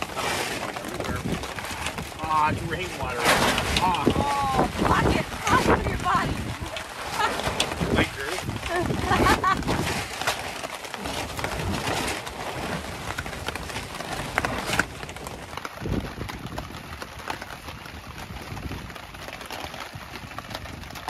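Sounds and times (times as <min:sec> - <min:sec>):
heavy rain on a tarp: 0:00.0 - 0:21.0.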